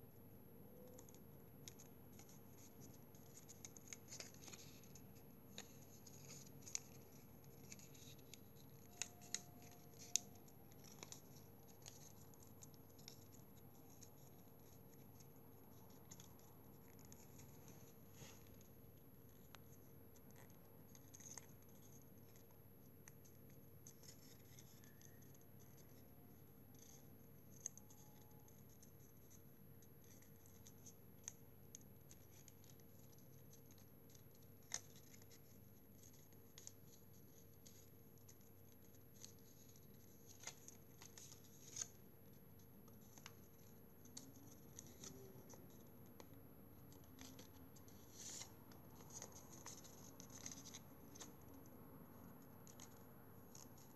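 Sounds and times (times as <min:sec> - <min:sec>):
sharp paper crackles: 0:00.8 - 0:51.6
paper rustling and crinkling: 0:00.8 - 0:53.9.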